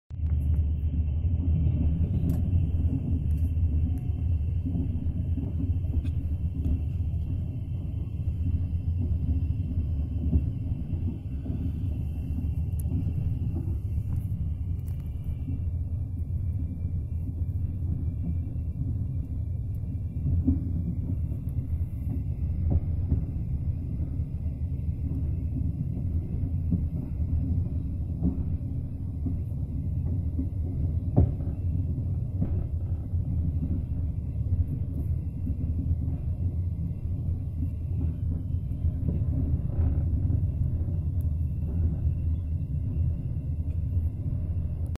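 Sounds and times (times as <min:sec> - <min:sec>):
train wheels rumbling on rails: 0:00.1 - 0:45.0
faint high whine: 0:00.2 - 0:45.0.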